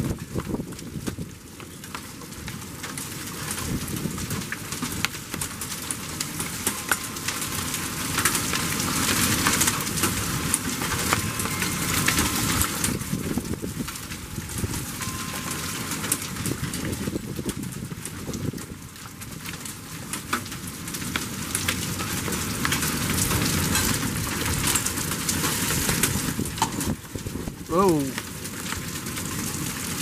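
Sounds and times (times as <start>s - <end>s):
hailstones striking hard surfaces: 0.0s - 30.0s
torrential rain pouring: 0.0s - 30.0s.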